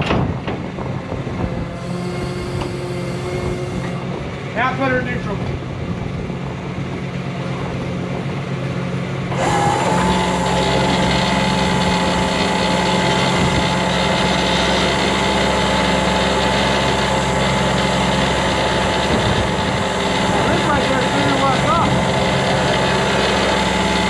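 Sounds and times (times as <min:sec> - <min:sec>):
steady whine: 0:00.0 - 0:24.0
tow truck engine running: 0:00.0 - 0:24.0.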